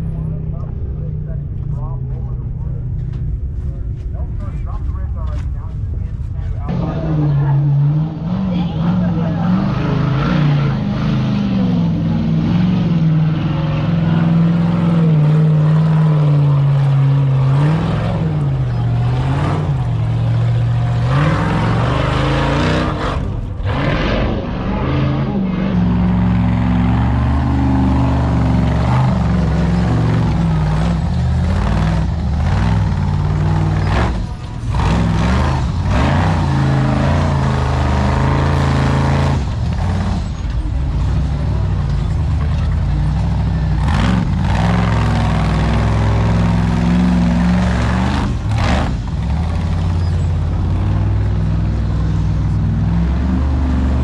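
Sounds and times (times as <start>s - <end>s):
buggy engines revving: 0.0s - 54.0s.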